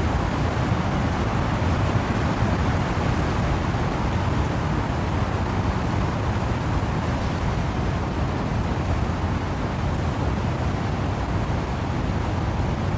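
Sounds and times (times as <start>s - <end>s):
wind through trees: 0.0s - 12.9s.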